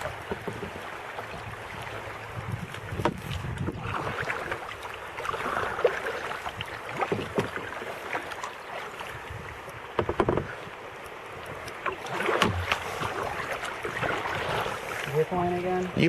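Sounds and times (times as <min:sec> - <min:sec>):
paddles dipping and splashing: 0:00.0 - 0:16.0
water washing around hull: 0:00.0 - 0:16.0.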